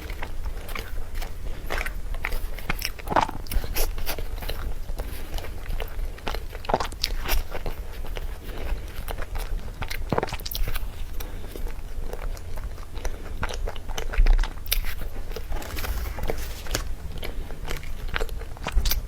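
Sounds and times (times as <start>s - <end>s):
person chewing cake: 0.0s - 19.0s.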